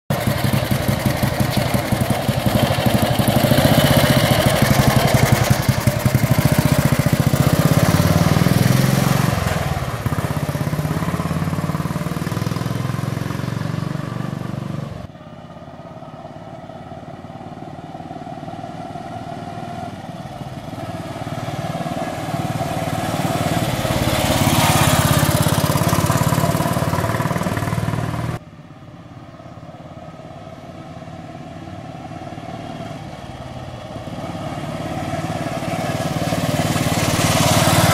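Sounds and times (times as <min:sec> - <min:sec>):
motorcycle engine running: 0:00.1 - 0:37.9.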